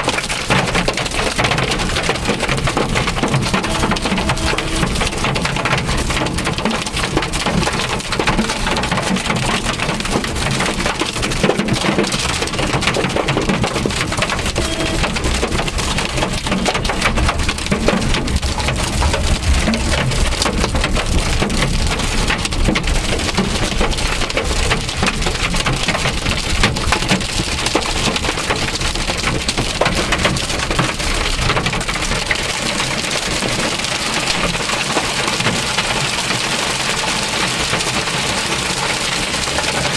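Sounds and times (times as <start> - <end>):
hail clattering on car roof: 0.0 - 39.9.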